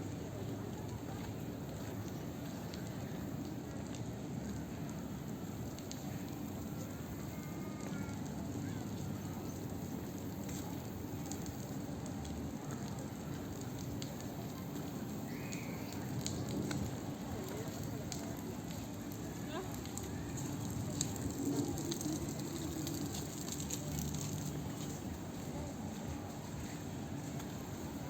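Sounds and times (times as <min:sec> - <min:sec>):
faint distant voices: 0:00.0 - 0:28.0
low outdoor rumble: 0:00.0 - 0:28.0.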